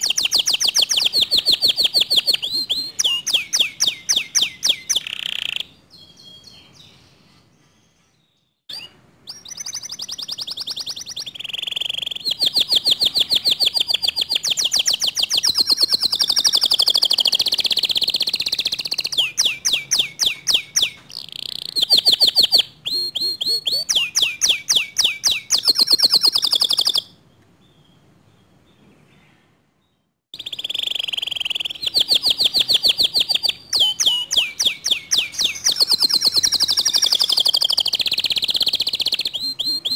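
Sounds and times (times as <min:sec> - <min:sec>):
canary singing trills: 0:00.0 - 0:29.4, 0:30.3 - 0:39.9.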